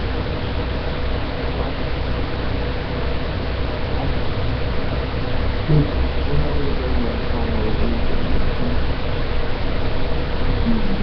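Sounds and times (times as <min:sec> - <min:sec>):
low hum: 0:00.0 - 0:11.0
steady hiss: 0:00.0 - 0:11.0.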